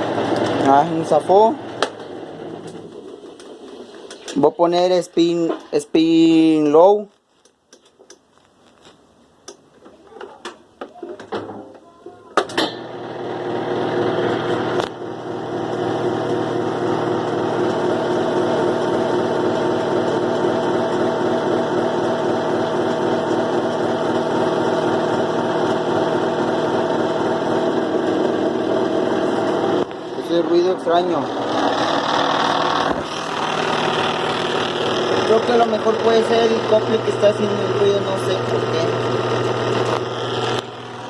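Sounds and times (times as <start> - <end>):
washing machine motor humming: 0.0 - 6.4, 12.5 - 41.0.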